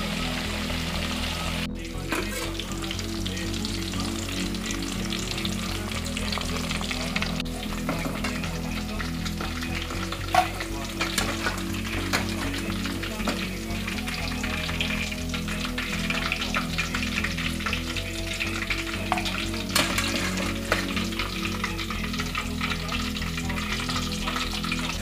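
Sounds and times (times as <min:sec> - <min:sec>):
food deep-frying in hot oil: 0:00.0 - 0:25.0
soft background music: 0:00.0 - 0:25.0.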